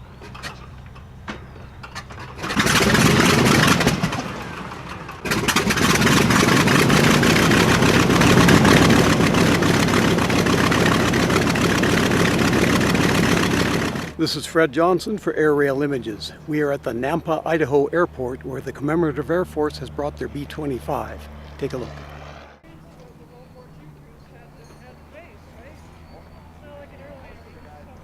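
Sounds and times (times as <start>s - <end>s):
radial engine starting and running: 0.0s - 28.0s.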